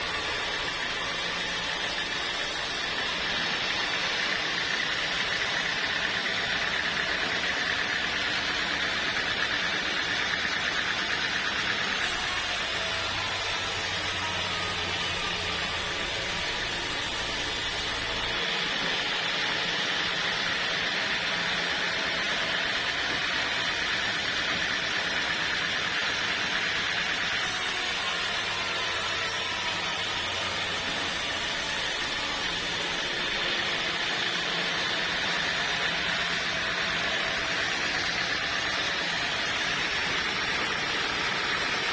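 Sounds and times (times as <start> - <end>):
machinery running with whine: 0.0 - 41.9.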